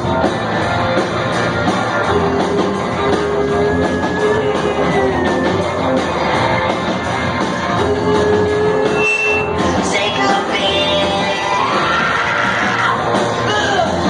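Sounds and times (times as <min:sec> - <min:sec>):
drum kit fast beat: 0:00.0 - 0:14.0
electric guitars: 0:00.0 - 0:14.0.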